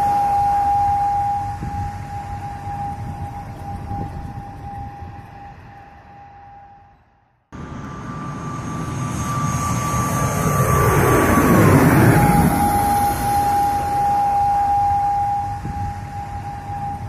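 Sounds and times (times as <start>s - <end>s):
jet airliner engines whining: 0.0s - 17.0s.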